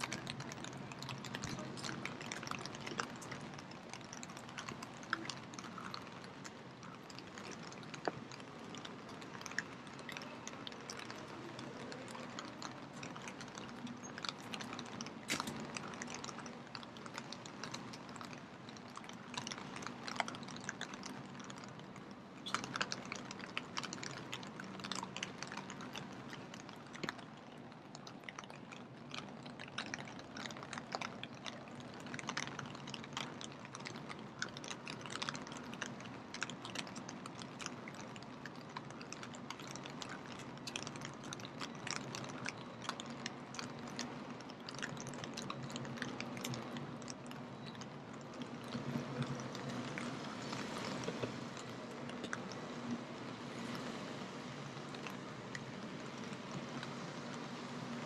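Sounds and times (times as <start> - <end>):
close drops ticking and spattering: 0.0 - 58.0.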